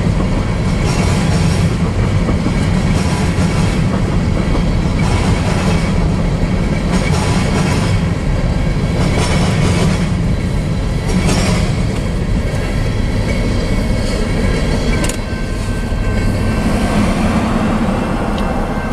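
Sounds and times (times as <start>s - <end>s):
train wheels rumbling on track: 0.0s - 18.9s.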